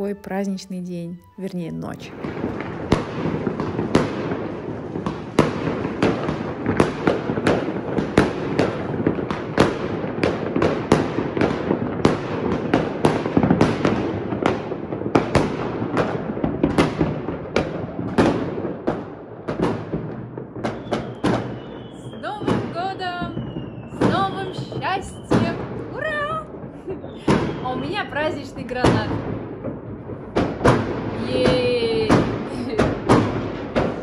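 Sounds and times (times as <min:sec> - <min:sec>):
fireworks crackling rumble: 0:01.5 - 0:34.0
fireworks bangs: 0:01.8 - 0:34.0.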